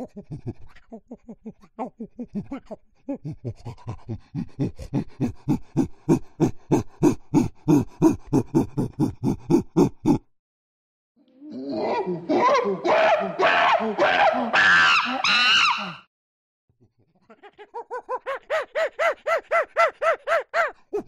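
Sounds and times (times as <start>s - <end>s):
chimpanzee pant-hooting: 0.0s - 10.3s, 11.7s - 16.1s, 16.9s - 21.0s.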